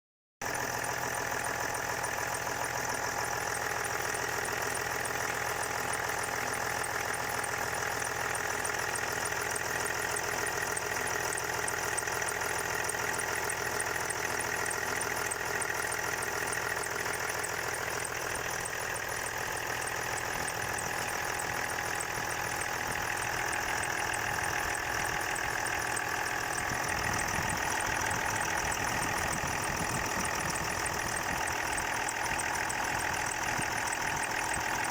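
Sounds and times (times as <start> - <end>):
car engine idling: 0.4 - 34.9.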